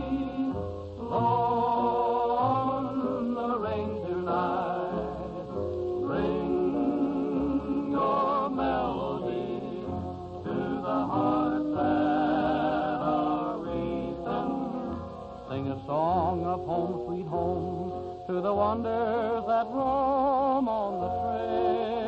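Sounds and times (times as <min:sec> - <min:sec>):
male vocal group singing in harmony: 0:00.0 - 0:22.0.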